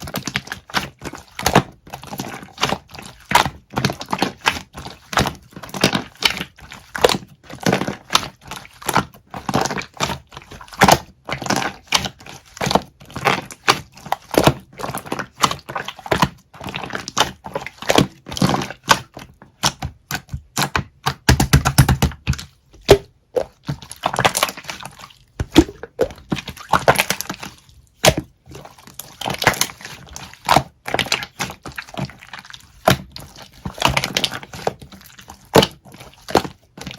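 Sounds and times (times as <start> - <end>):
slime squelch: 0.0 - 36.9.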